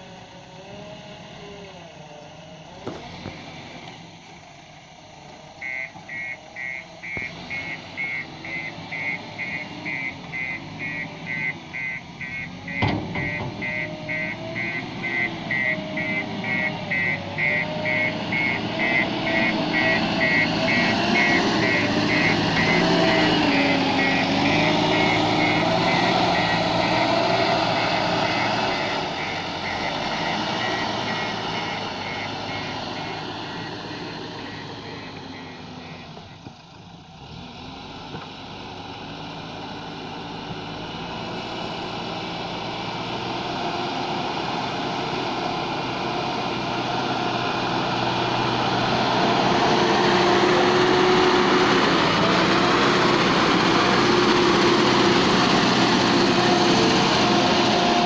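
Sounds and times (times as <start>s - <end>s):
heavy diesel machinery engine: 0.0s - 58.0s.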